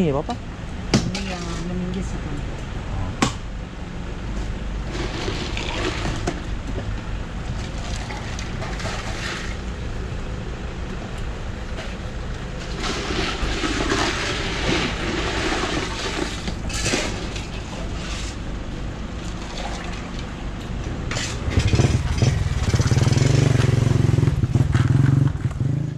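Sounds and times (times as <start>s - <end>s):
low engine hum: 0.0s - 25.9s
loud engine running close by: 1.6s - 25.9s.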